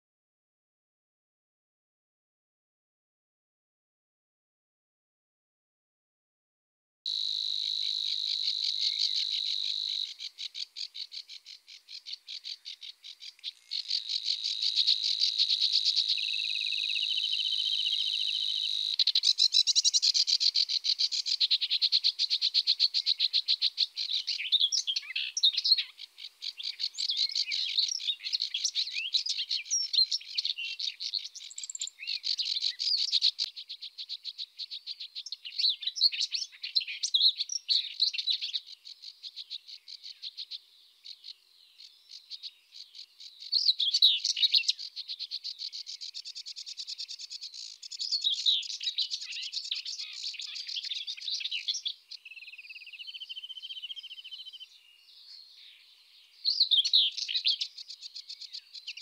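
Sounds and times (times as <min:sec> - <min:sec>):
small birds chirping and trilling: 0:07.1 - 0:59.0.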